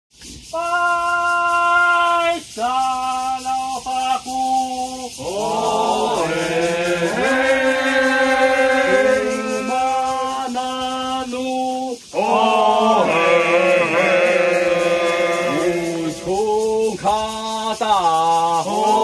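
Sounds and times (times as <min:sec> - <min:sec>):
unaccompanied voices chanting: 0:00.5 - 0:19.0.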